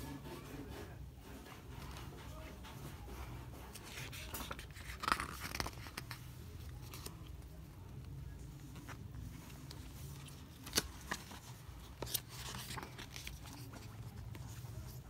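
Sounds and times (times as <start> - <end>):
paper rustling and crinkling: 0.7 - 15.0.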